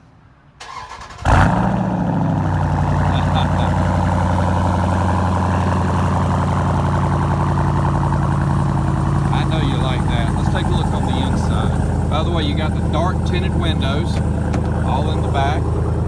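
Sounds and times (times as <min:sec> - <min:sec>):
car engine starting and idling: 0:00.6 - 0:16.0.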